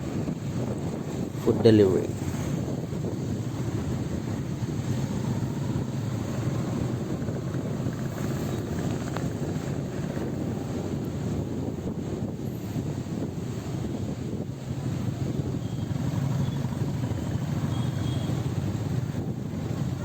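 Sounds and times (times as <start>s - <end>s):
motorcycle engine cruising: 0.0s - 20.0s
wind noise on microphone: 0.0s - 20.0s.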